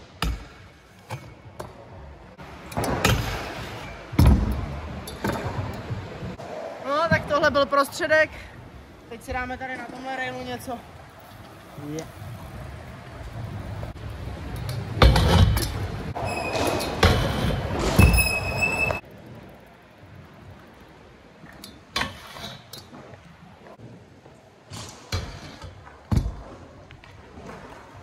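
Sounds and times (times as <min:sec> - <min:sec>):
scooter wheels rolling: 0:00.4 - 0:28.0.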